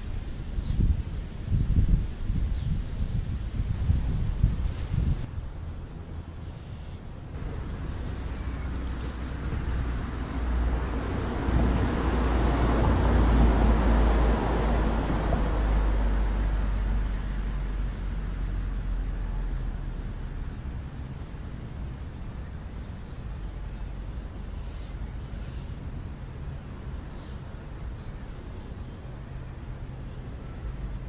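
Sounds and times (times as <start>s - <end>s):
car passing: 5.2s - 31.0s.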